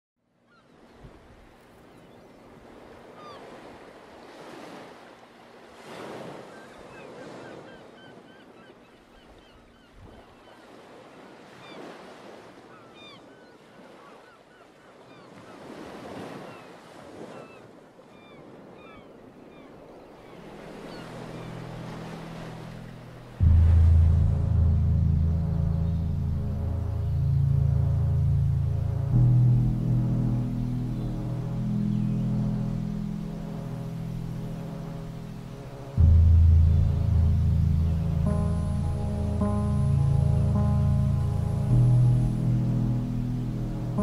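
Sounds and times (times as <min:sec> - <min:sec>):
sea waves washing ashore: 0:00.6 - 0:44.0.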